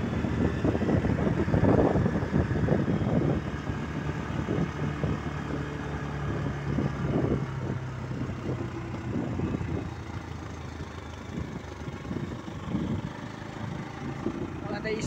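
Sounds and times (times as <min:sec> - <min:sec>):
low engine hum: 0:00.0 - 0:15.0
wind and road noise: 0:00.0 - 0:15.0.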